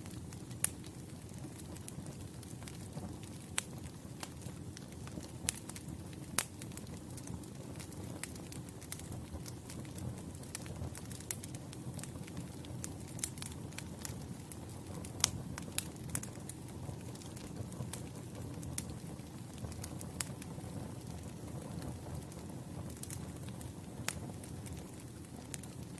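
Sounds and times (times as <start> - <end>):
burning logs crackling and popping: 0.0 - 25.9
campfire flames fluttering: 0.0 - 25.9.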